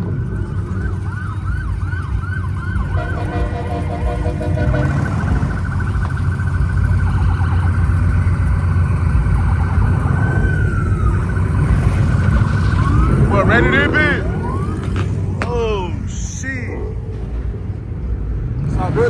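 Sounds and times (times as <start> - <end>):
emergency siren: 0.0 - 19.0
heavy low rumble: 0.0 - 19.0.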